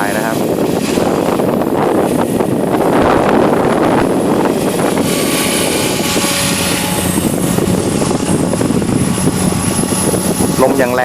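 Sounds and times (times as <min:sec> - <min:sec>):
rc helicopter motor whine: 0:00.0 - 0:11.0
wind rumble on microphone: 0:00.0 - 0:11.0.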